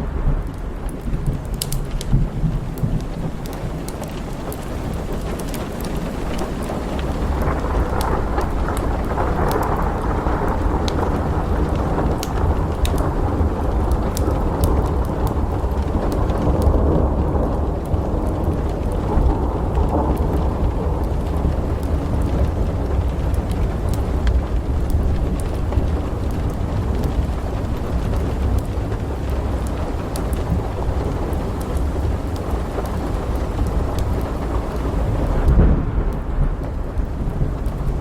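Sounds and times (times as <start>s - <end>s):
rolling thunder: 0.0s - 38.0s
steady rain: 0.0s - 38.0s
wood fire crackling: 0.0s - 38.0s.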